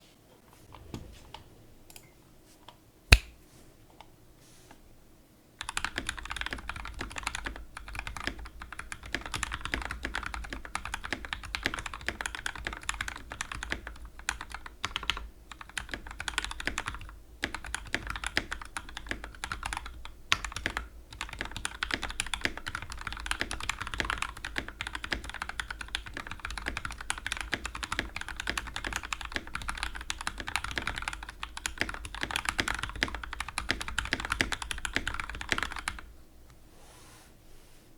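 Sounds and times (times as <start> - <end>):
mechanical keyboard typing: 5.6 - 36.1.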